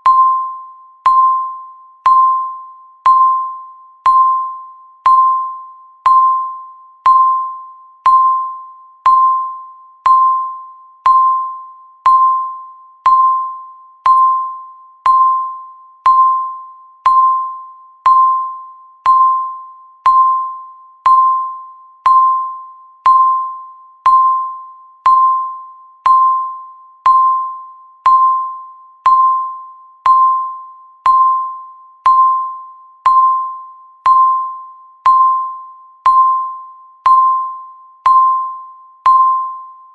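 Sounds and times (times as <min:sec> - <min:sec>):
timer ticking with ringing ping: 0:00.0 - 0:39.9.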